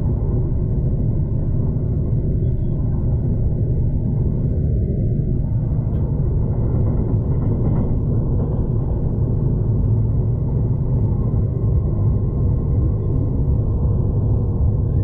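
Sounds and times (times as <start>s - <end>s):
train rumbling from inside carriage: 0.0s - 15.0s.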